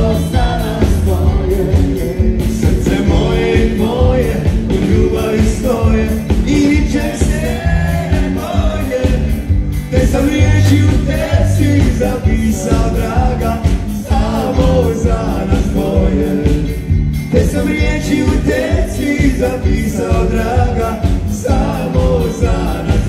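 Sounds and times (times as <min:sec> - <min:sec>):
drums: 0:00.0 - 0:23.0
electric guitar: 0:00.0 - 0:23.0
keyboards: 0:00.0 - 0:23.0
man singing into a microphone: 0:00.0 - 0:23.0.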